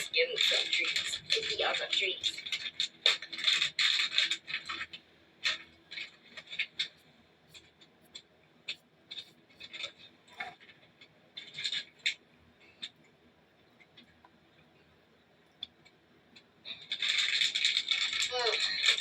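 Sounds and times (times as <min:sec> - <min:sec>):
cat treats clicking and rattling: 0:00.0 - 0:13.0, 0:16.7 - 0:19.0.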